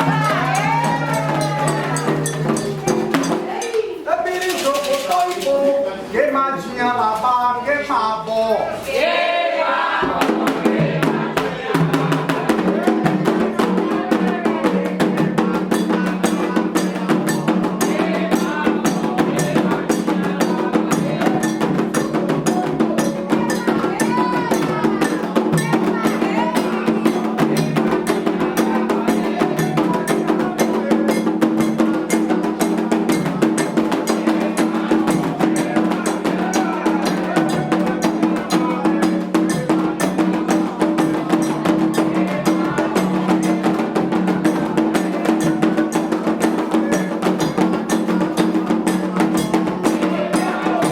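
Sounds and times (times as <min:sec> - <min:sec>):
hand drums and percussion: 0:00.0 - 0:06.8, 0:09.8 - 0:50.9
voices singing: 0:00.0 - 0:50.9.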